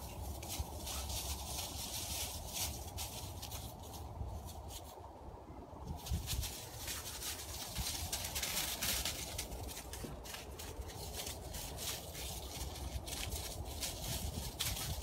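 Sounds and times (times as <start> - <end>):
paws crunching dry leaves: 0.0 - 5.0, 6.0 - 15.0.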